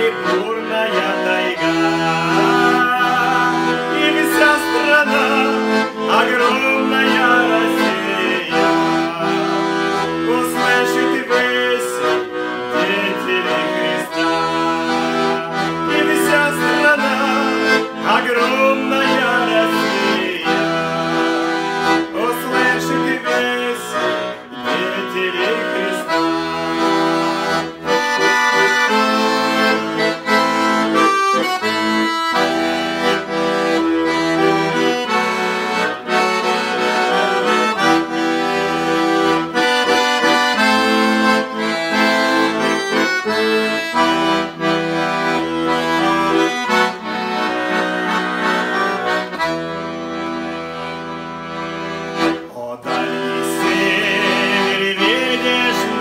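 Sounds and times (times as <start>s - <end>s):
button accordion playing: 0.0s - 56.0s.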